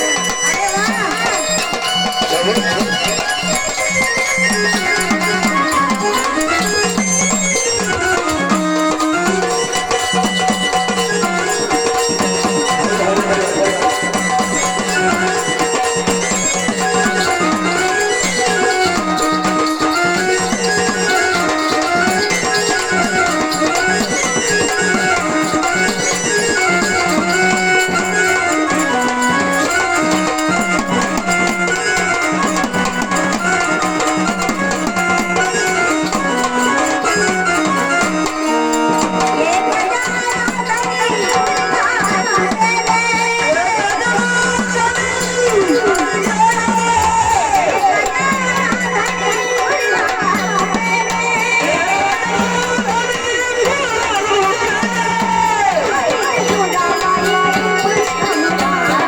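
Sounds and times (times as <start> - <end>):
melody instrument playing tune: 0.0 - 42.5, 47.8 - 59.0
hand drum rhythm: 0.0 - 59.0.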